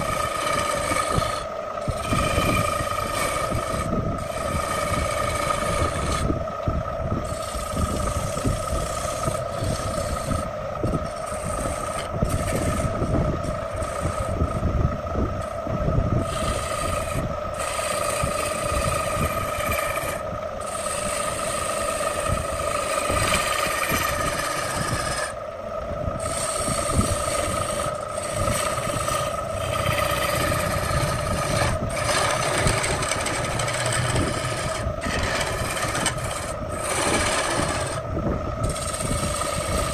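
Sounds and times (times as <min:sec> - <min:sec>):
turning tool scraping wood: 0:00.0 - 0:06.3, 0:07.2 - 0:14.7, 0:16.2 - 0:25.4, 0:26.2 - 0:39.9
wood lathe humming: 0:00.0 - 0:39.9.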